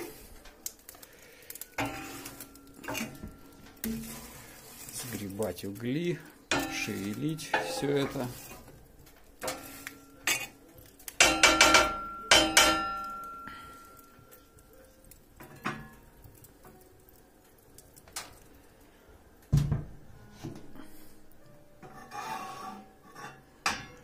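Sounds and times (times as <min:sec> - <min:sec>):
metal fireplace tools clanking: 0:00.0 - 0:18.5, 0:19.5 - 0:24.0.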